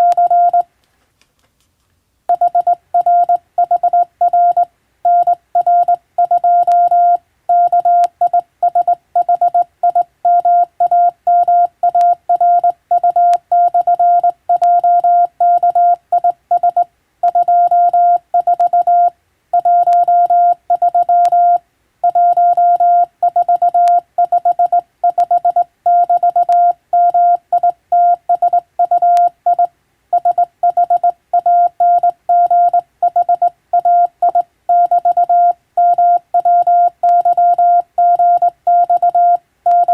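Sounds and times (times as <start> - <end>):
morse code beeps: 0.0 - 0.7, 2.3 - 39.9.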